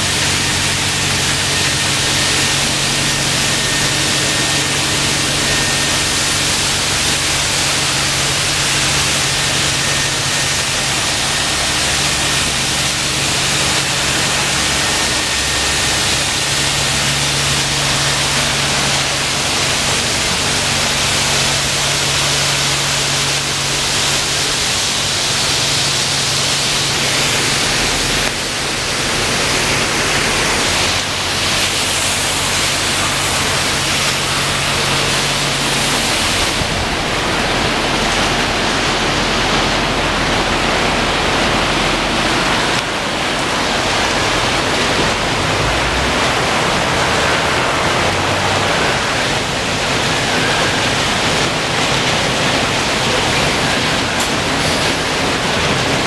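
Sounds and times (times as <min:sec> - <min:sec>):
pump motor hum: 0:00.0 - 0:56.0
water jets spraying: 0:00.0 - 0:56.0
water splashing: 0:00.0 - 0:56.0.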